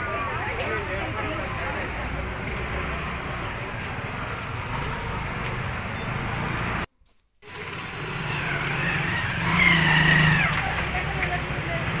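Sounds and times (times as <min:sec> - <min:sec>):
crowded market street noise: 0:00.0 - 0:12.0
vehicle noise: 0:00.0 - 0:12.0.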